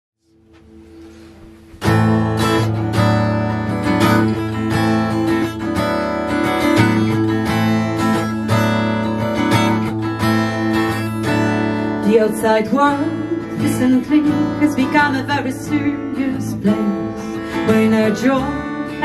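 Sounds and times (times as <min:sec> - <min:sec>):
strummed acoustic guitar: 0:00.3 - 0:19.0.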